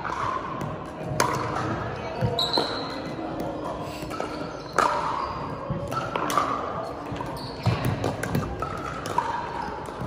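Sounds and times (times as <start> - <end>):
balls bouncing on wooden floor: 0.0 - 10.0
paddles hitting balls: 0.0 - 10.0.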